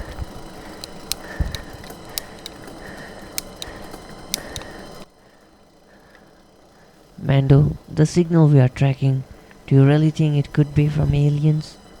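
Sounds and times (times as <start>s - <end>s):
bicycle drivetrain clicking: 0.0s - 12.0s
bicycle rolling noise: 0.0s - 12.0s.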